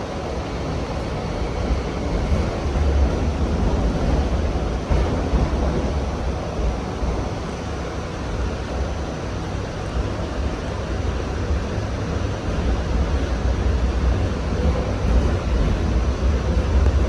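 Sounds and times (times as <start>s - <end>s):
train running on track: 0.0s - 17.0s.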